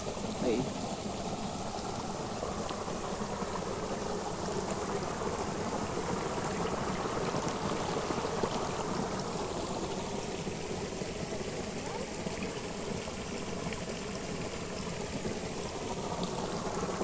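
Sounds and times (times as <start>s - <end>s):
floodwater rushing over ground: 0.0s - 17.0s.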